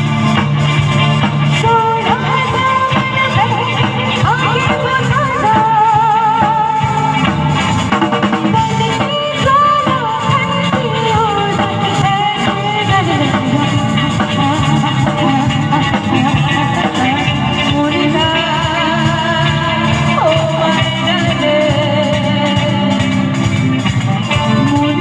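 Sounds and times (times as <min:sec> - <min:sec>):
drums: 0:00.0 - 0:25.0
guitar: 0:00.0 - 0:25.0
person singing: 0:01.5 - 0:07.5, 0:08.5 - 0:25.0.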